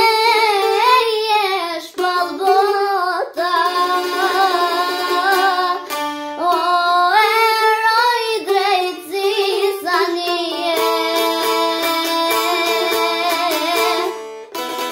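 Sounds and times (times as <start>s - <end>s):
girl singing with vibrato: 0.0s - 14.2s
plucked two-string lute: 0.0s - 14.9s.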